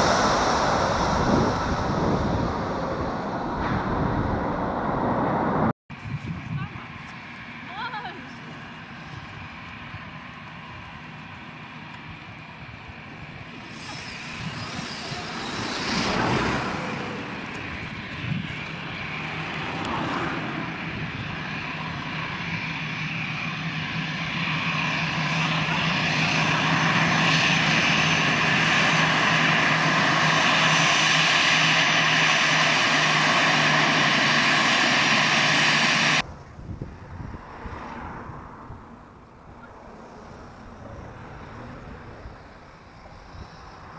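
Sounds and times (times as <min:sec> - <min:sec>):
jet engines whining: 0:00.0 - 0:05.7, 0:06.7 - 0:43.9.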